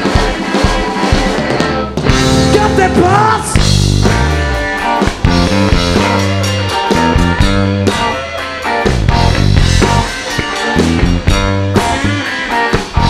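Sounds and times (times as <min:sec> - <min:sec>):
bass guitar: 0:00.0 - 0:13.0
drum kit: 0:00.0 - 0:13.0
electric guitar: 0:00.0 - 0:13.0
sliding guitar notes: 0:00.0 - 0:13.0.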